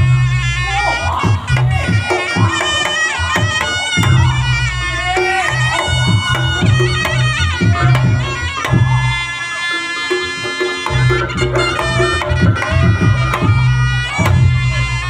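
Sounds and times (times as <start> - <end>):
drum and gong strokes: 0.0 - 15.0
shawm playing nasal melody: 0.0 - 15.0.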